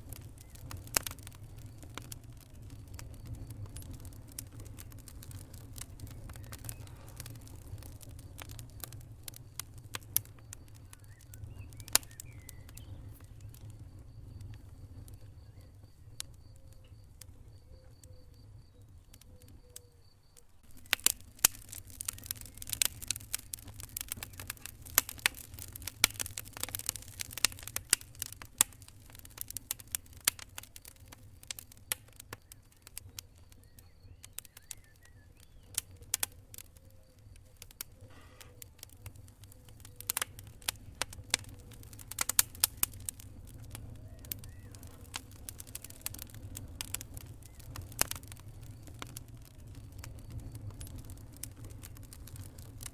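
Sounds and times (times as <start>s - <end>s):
low rumble of burning: 0.0s - 52.9s
wood fire crackling and popping: 0.0s - 52.9s.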